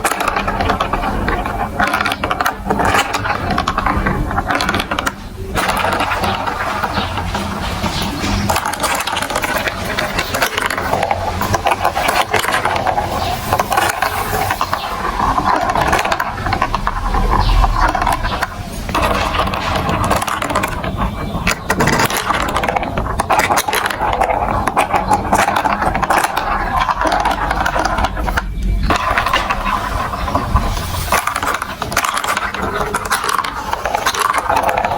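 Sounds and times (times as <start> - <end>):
marbles rattling through marble run: 0.0 - 34.9.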